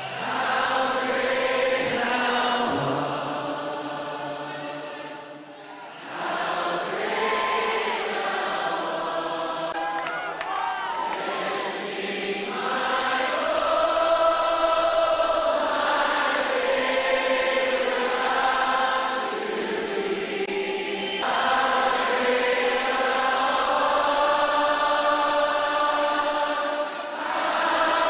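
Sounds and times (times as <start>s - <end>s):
choir-like voices holding chords: 0.0s - 9.8s, 11.1s - 28.0s.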